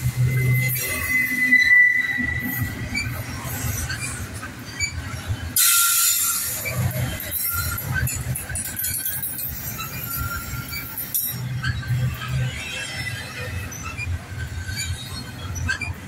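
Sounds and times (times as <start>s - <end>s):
train cars rumbling: 0.0s - 16.0s
train wheels squealing on rail: 0.0s - 16.0s.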